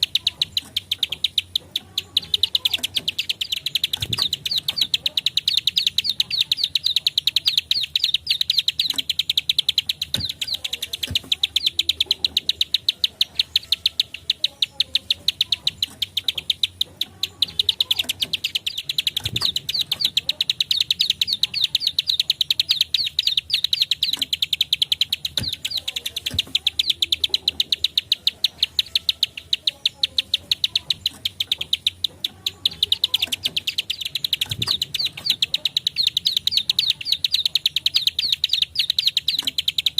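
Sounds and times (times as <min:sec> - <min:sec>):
bird dry clicking call: 0:00.0 - 0:39.9.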